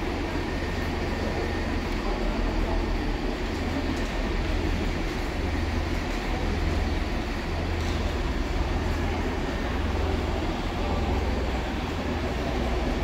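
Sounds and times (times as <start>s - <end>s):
train diesel engine idling: 0.0s - 13.0s.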